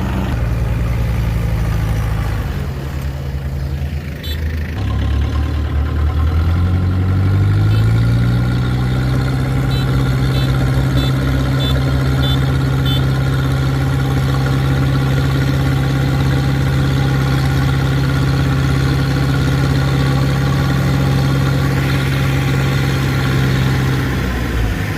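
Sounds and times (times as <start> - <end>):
farm machine engine: 0.0 - 24.9.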